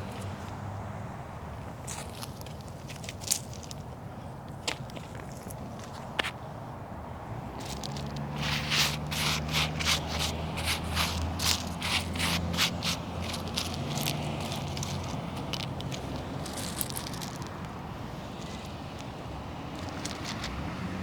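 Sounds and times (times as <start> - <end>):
gravel scattered by hand: 1.6 - 6.5, 7.5 - 21.0.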